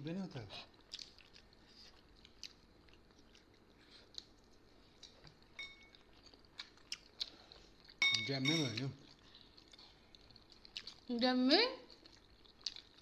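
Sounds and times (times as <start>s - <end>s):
people chewing: 0.5s - 11.2s, 11.8s - 13.0s.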